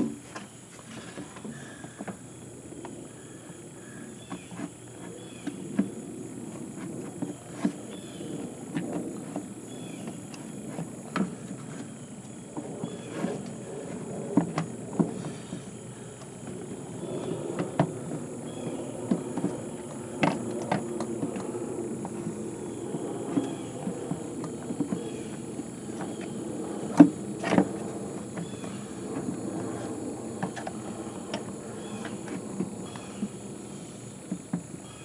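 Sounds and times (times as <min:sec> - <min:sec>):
low hum: 0:00.0 - 0:34.3
faint high whine: 0:00.0 - 0:35.0.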